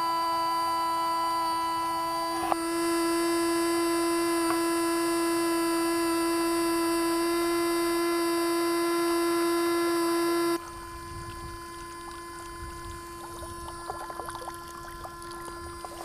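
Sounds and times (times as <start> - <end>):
electric water pump whining: 0.0 - 16.0.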